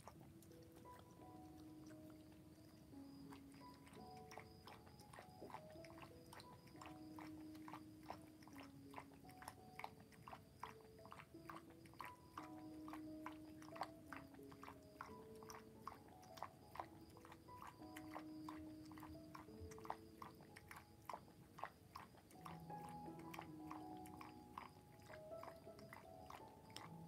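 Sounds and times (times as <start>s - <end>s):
dog chewing and crunching: 0.0s - 27.0s
soft music of held notes: 0.0s - 27.0s.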